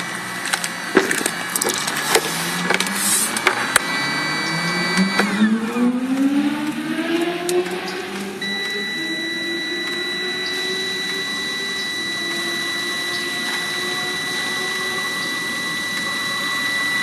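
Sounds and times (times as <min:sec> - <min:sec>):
heater motor whirring with whine: 0:00.0 - 0:17.0.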